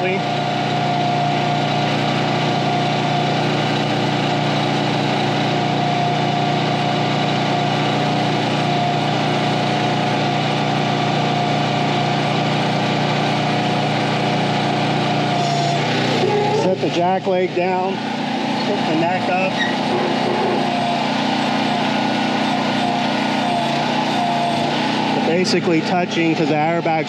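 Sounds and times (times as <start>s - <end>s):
hydraulic whine: 0.0s - 27.0s
small engine running: 0.0s - 27.0s.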